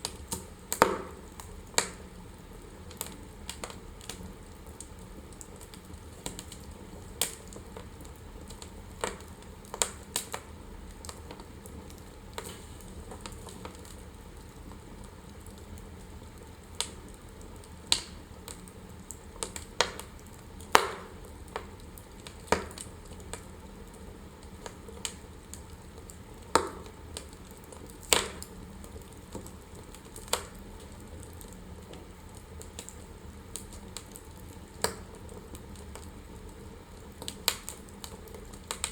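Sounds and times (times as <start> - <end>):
fire crackling and popping: 0.0 - 38.9
fire hissing: 0.0 - 38.9.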